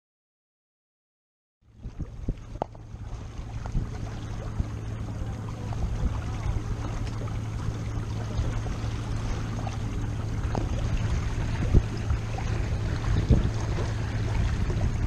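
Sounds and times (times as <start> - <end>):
water rushing along hull: 1.6 - 15.0
wind buffeting microphone: 1.7 - 15.0.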